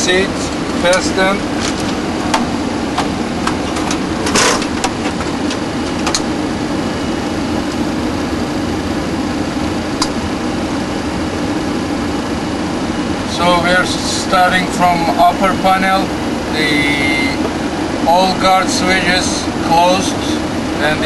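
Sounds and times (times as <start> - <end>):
air conditioning and fans humming: 0.0 - 21.0.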